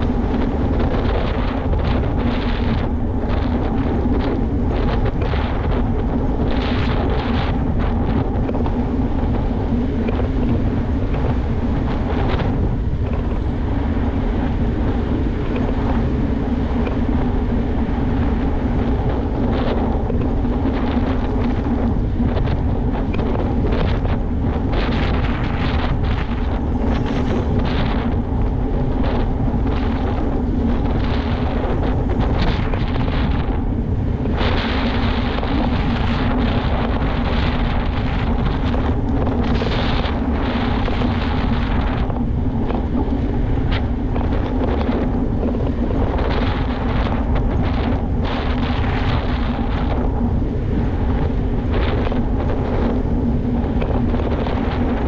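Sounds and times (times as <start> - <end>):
tyres rumbling on asphalt: 0.0 - 55.0
wind buffeting microphone: 0.0 - 55.0.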